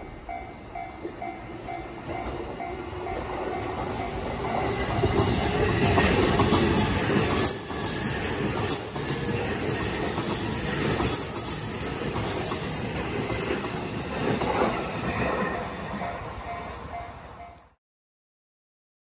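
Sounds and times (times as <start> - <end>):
electric train passing over rails: 0.0 - 17.8.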